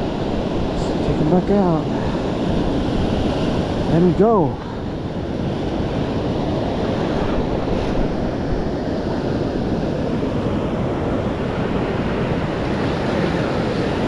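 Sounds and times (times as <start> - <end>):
surf breaking and washing in: 0.0 - 14.0
wind buffeting microphone: 0.0 - 14.0.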